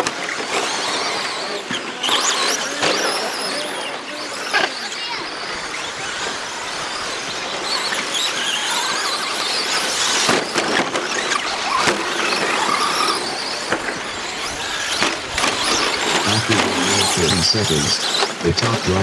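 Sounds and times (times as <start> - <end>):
rc trucks electric motors whining: 0.0 - 19.0.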